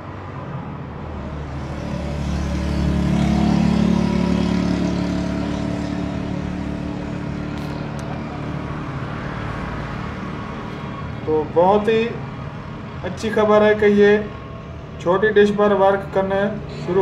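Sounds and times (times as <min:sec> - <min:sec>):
vehicle engine running: 0:01.0 - 0:17.0.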